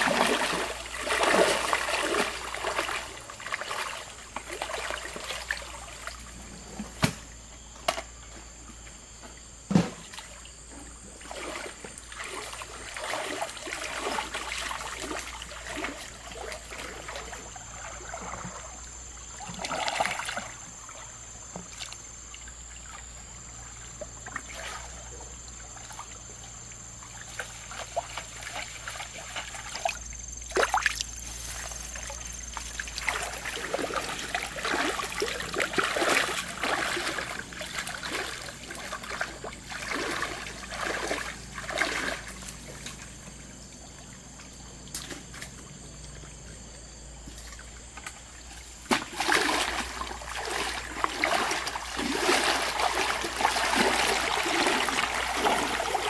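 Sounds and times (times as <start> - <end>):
water trickling and splashing: 0.0 - 7.5, 8.7 - 56.0.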